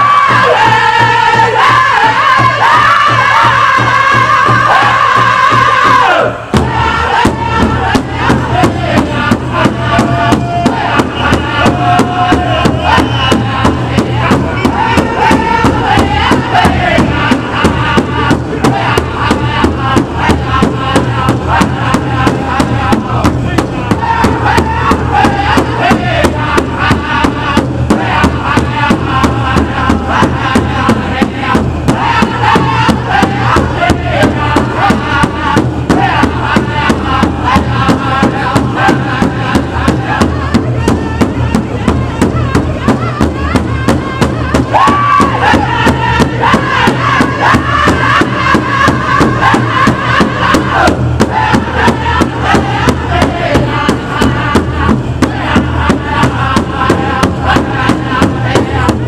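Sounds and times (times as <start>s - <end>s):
high voices singing in unison: 0.0s - 59.0s
large drum steady beat: 0.0s - 59.0s.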